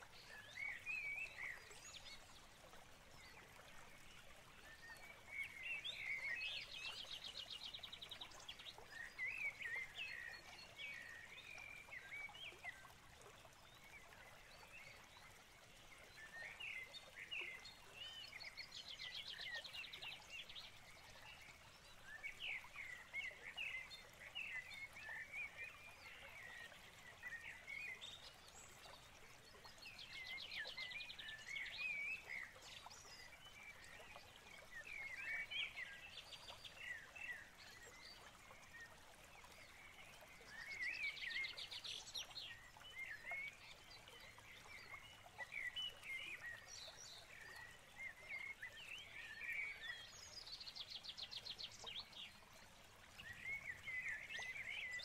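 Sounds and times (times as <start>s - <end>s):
small birds singing and chirping: 4.6s - 55.0s.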